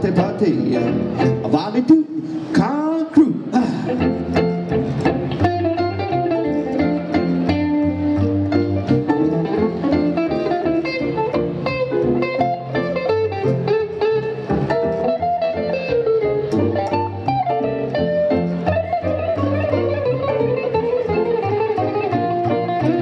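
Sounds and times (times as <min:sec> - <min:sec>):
electric guitar: 0:00.0 - 0:02.5, 0:03.4 - 0:23.0
upright double bass: 0:00.0 - 0:02.6, 0:03.8 - 0:23.0
upright piano: 0:00.0 - 0:23.0.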